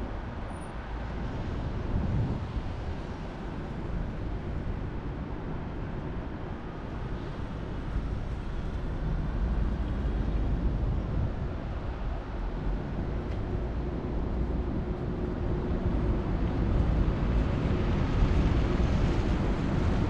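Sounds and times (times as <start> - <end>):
traffic on a wet street: 0.0 - 20.0.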